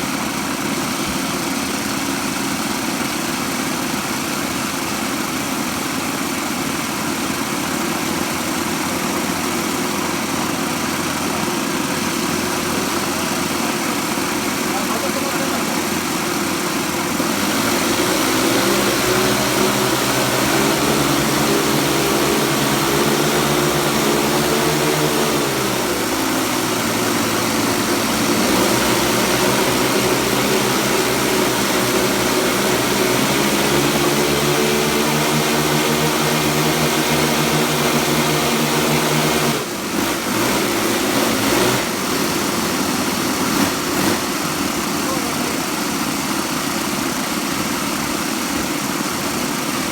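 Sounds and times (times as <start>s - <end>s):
model aircraft engines running: 0.0s - 49.9s.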